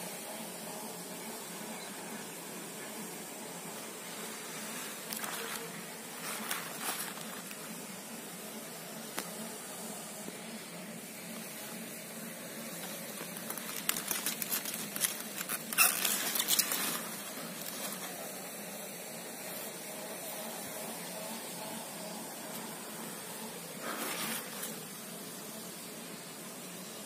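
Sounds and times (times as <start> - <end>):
background hiss: 0.0 - 27.0
leaves rustling on microphone: 3.5 - 25.5.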